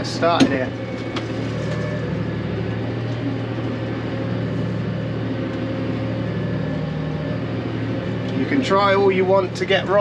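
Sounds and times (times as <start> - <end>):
tractor engine droning: 0.0 - 10.0.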